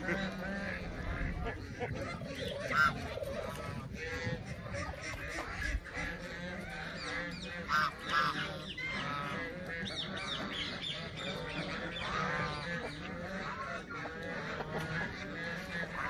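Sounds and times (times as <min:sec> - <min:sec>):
geese and ducks honking: 0:00.0 - 0:16.0.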